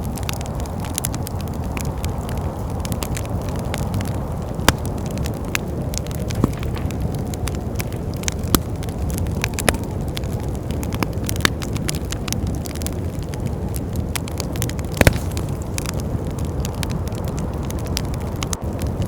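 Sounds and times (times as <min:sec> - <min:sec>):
low rumble of wind: 0:00.0 - 0:19.0
wood fire crackling and popping: 0:00.0 - 0:19.0.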